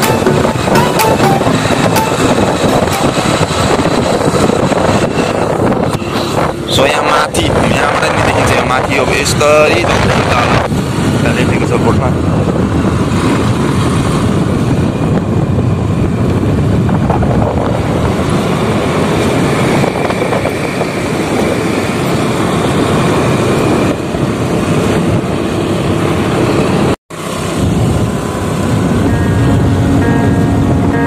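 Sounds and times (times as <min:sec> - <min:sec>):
wind rushing on microphone: 0:01.5 - 0:31.0.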